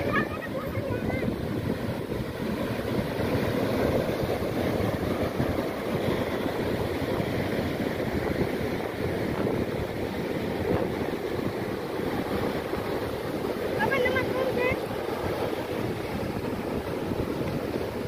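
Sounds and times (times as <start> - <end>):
sea surf breaking: 0.0 - 18.0
wind buffeting microphone: 0.0 - 18.0.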